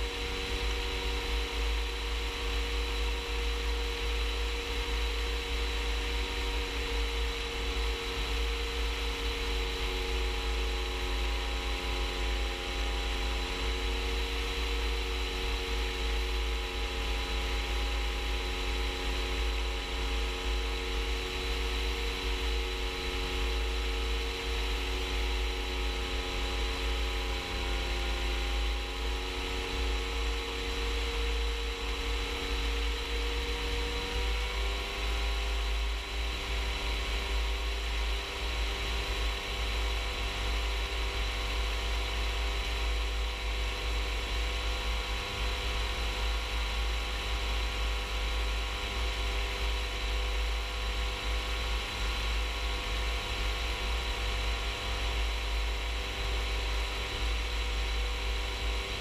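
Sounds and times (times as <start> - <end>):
light aircraft engine running: 0.0 - 59.0.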